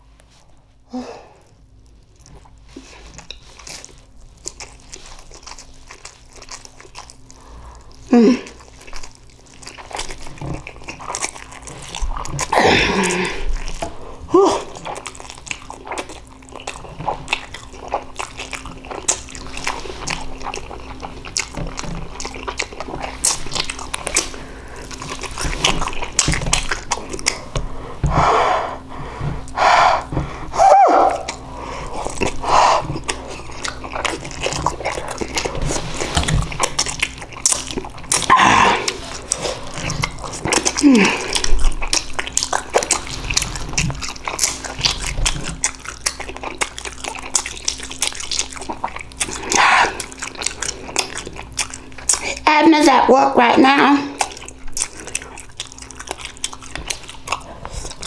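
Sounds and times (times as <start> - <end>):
wet chewing and mouth smacking: 1.4 - 58.0.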